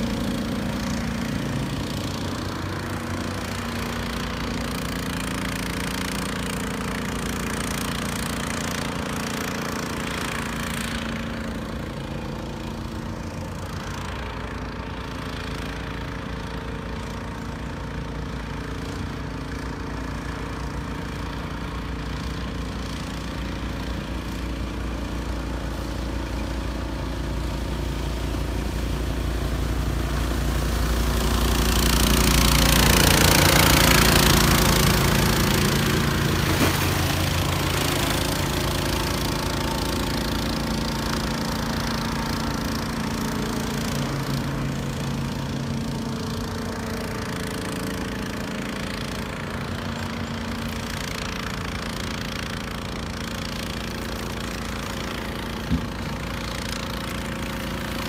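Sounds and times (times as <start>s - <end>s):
boat engine running at speed: 0.0s - 58.0s
rush of spray: 0.0s - 58.0s.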